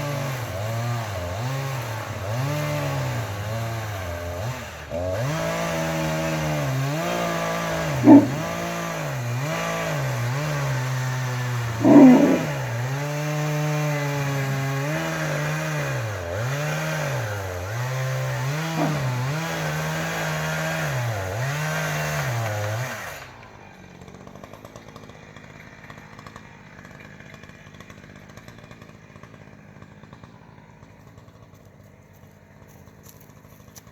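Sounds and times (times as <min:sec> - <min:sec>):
chainsaw cutting into tree: 0:00.0 - 0:33.9.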